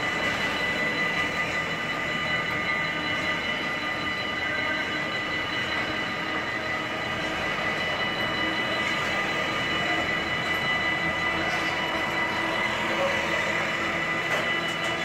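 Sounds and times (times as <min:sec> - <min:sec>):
faint high whine: 0:00.0 - 0:15.0
train wheels rumbling on rail: 0:00.0 - 0:15.0.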